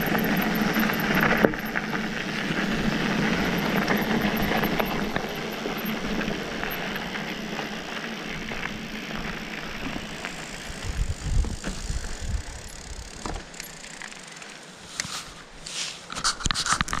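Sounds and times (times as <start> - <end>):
bike tyres crunching on gravel: 0.0 - 17.0.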